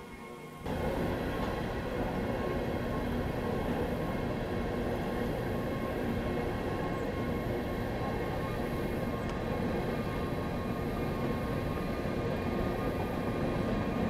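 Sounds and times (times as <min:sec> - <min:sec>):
faint steady tones: 0:00.0 - 0:14.0
freight train rumbling: 0:00.7 - 0:14.0.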